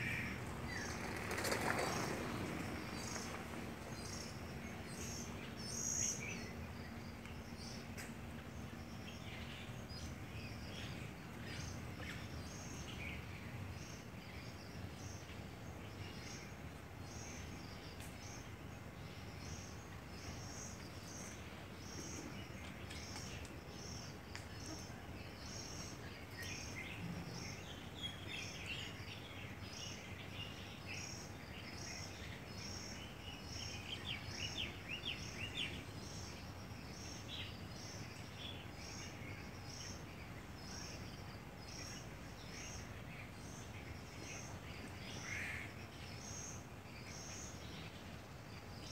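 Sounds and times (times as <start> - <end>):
outdoor background noise: 0.0 - 48.9.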